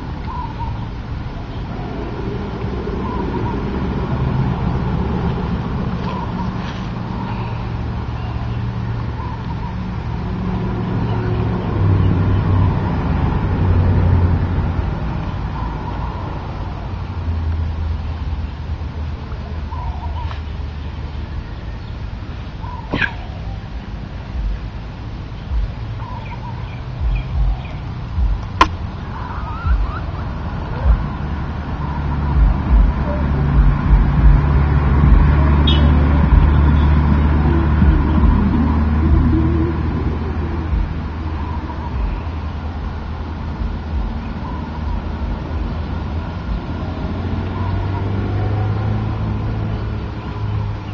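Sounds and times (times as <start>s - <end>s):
low engine hum: 0.0s - 50.9s.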